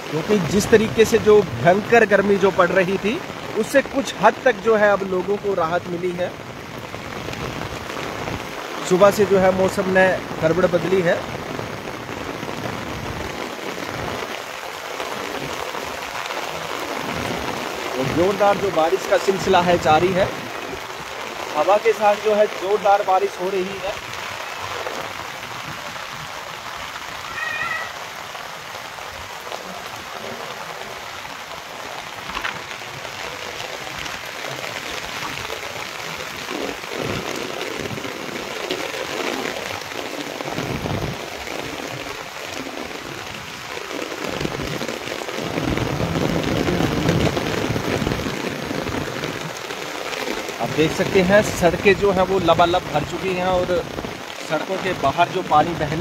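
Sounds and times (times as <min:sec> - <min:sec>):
heavy rain on rooftops: 0:00.0 - 0:56.0.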